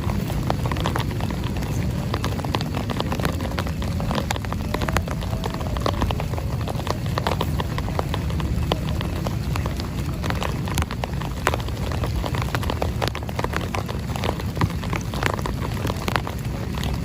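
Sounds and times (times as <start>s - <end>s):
heavy rain drumming on a tent: 0.0s - 17.0s.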